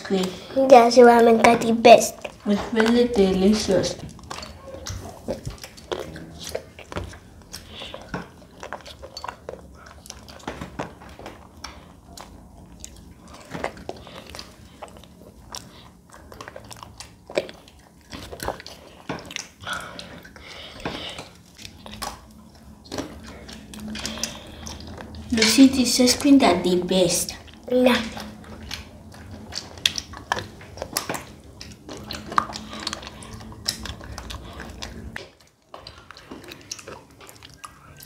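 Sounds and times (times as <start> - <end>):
chewing: 0.1 - 38.0.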